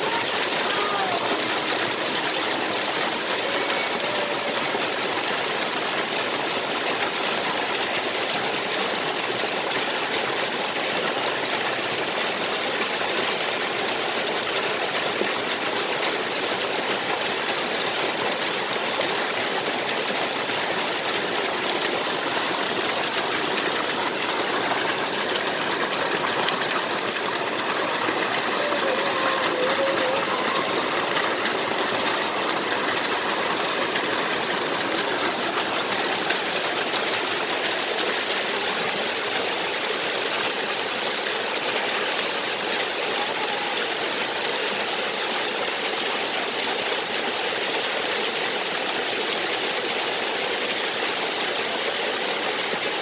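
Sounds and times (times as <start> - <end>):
waterfall pouring into stream: 0.0 - 53.0.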